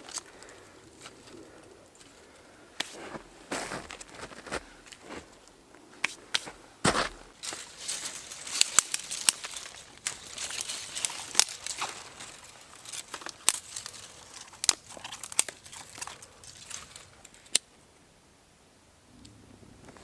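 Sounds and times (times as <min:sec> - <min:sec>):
crinkling handling noise: 0:00.0 - 0:17.7.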